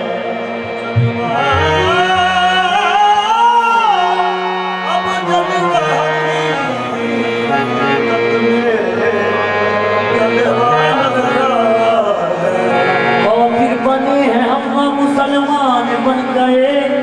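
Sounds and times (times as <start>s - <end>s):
harmonium chords: 0.0s - 17.0s
tabla: 0.0s - 17.0s.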